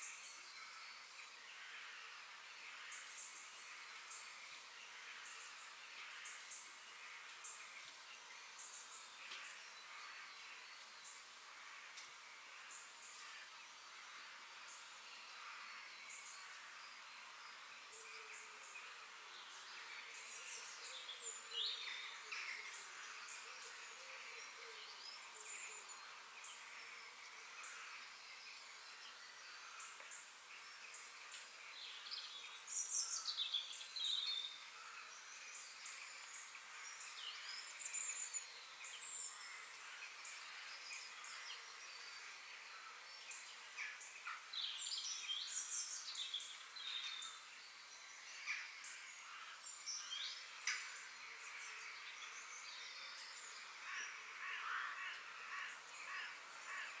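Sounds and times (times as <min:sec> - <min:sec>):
bird calls and chirps: 0:00.0 - 0:57.0
steady high background hiss: 0:00.0 - 0:57.0.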